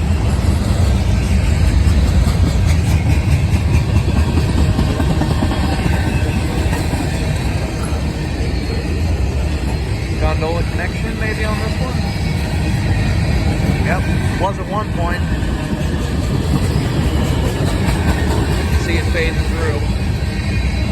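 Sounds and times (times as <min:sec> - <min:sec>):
freight train wheels rumbling: 0:00.0 - 0:20.9.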